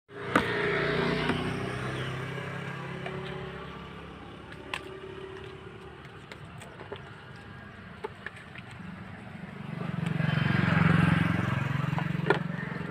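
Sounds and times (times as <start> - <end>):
vehicle engine running: 0.1 - 12.9.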